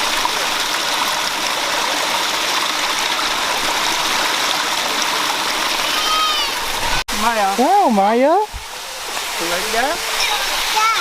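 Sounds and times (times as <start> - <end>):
water rushing over rock: 0.0 - 11.0.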